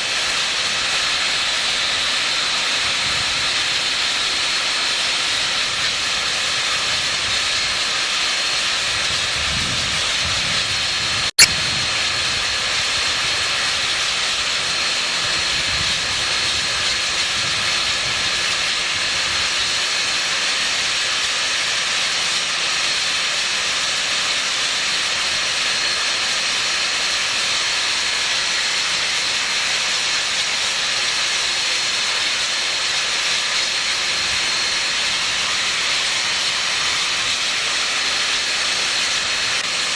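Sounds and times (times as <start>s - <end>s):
steam hissing from locomotive: 0.0s - 39.9s.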